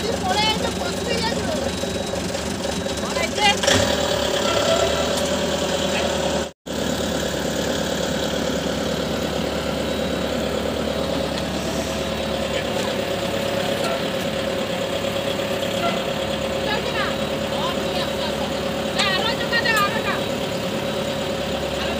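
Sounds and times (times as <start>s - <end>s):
tractor engine idling: 0.0s - 21.9s.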